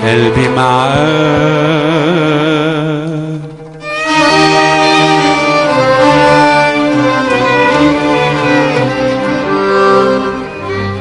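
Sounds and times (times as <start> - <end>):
ensemble of violins accordion and ouds: 0.0 - 11.0.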